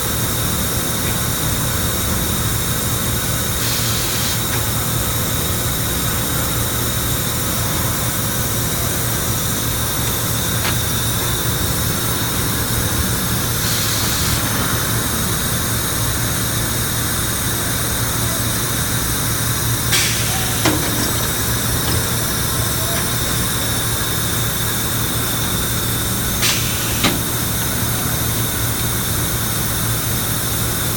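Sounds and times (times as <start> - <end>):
furnace low drone: 0.0 - 30.9.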